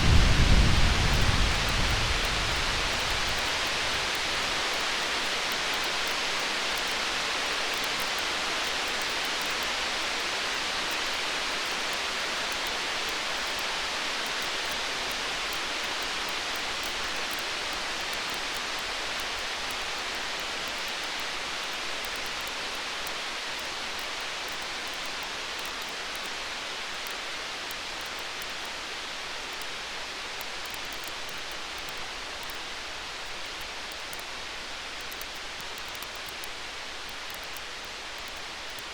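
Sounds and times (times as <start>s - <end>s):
rain hiss: 0.0s - 38.9s.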